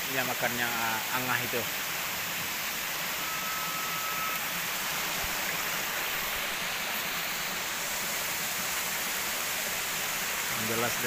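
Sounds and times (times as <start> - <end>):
rushing forest background hiss: 0.0 - 11.0.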